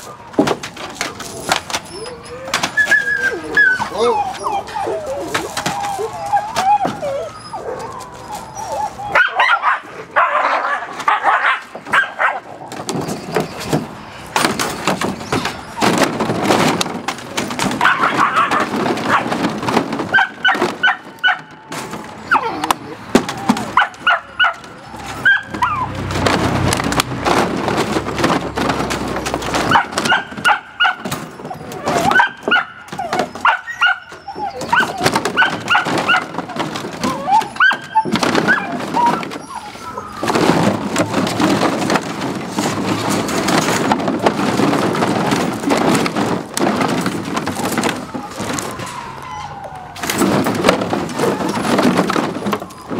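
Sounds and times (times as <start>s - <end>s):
knocks and rattles: 0.0s - 7.2s, 11.0s - 52.9s
puppies yipping and whimpering: 0.0s - 26.6s, 27.4s - 52.9s.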